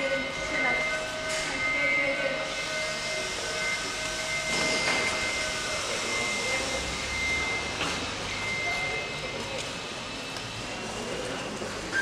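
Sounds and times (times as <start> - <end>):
machinery high whine: 0.0 - 12.0.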